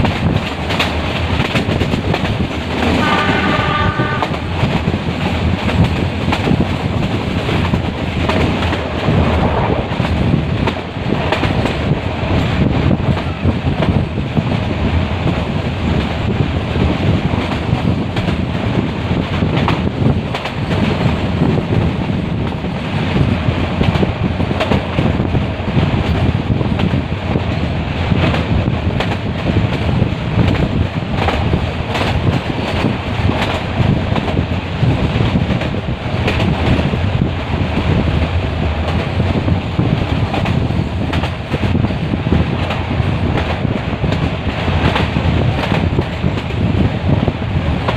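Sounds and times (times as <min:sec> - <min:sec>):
train wheels rumbling on track: 0:00.0 - 0:47.9
wind buffeting microphone: 0:00.0 - 0:47.9.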